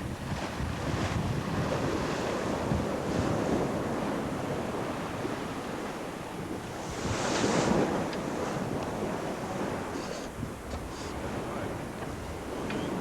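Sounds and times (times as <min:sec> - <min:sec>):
water rushing past hull: 0:00.0 - 0:13.0
wind buffeting microphone: 0:00.0 - 0:13.0.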